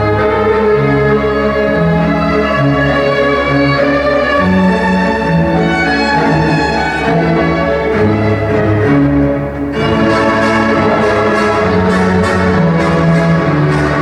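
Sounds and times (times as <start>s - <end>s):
orchestral strings melody: 0.0s - 14.0s.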